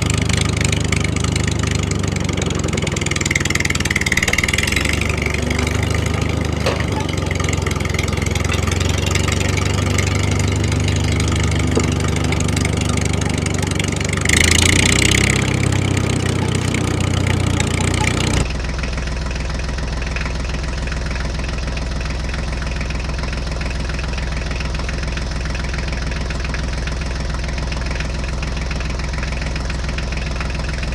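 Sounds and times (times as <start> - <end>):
tractor engine idling with knock: 0.0 - 30.9.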